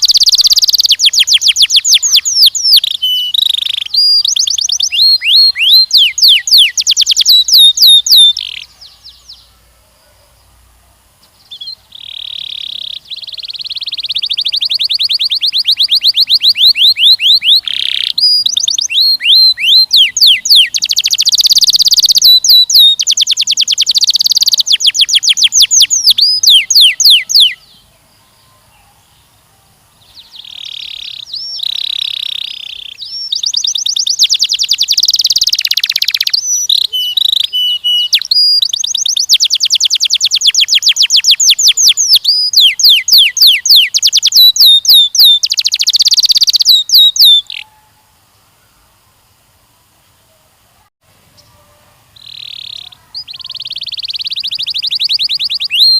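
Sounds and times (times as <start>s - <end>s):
canary singing trills: 0.0s - 10.5s, 11.2s - 48.1s, 51.3s - 55.9s.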